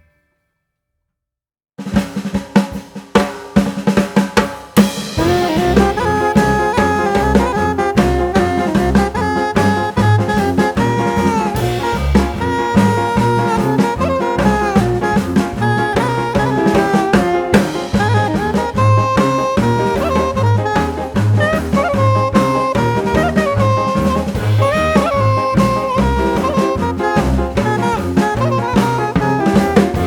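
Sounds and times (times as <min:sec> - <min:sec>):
drum kit playing: 0:01.8 - 0:30.0
band playing melody: 0:04.8 - 0:30.0.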